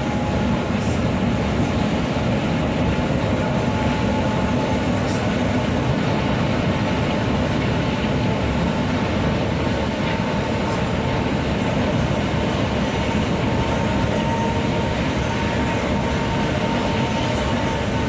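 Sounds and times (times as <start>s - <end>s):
heavy vehicle engine rumble: 0.0s - 18.0s.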